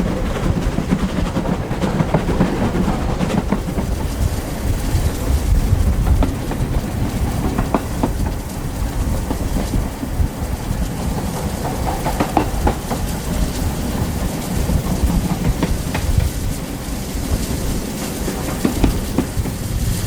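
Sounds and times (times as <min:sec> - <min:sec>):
train rumbling on track: 0:00.0 - 0:20.0
wheels clicking and squeaking on rail: 0:00.0 - 0:20.0.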